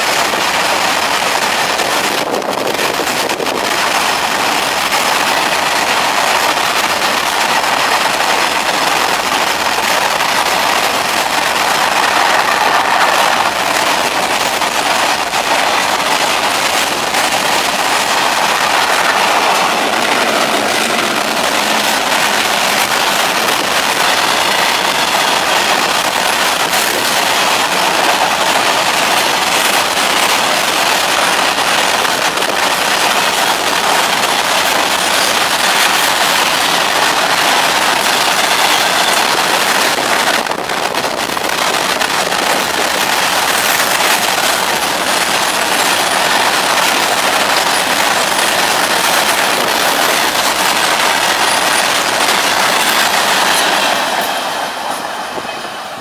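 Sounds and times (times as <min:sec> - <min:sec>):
freight train wheels rushing on rail: 0:00.0 - 0:56.0.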